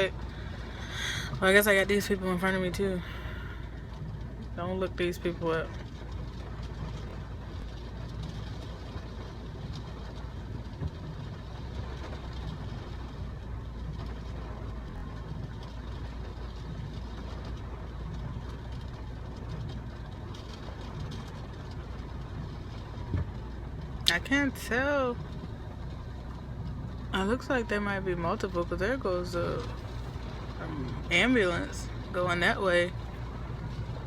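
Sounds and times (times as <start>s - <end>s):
car engine hum inside cabin: 0.0s - 34.0s.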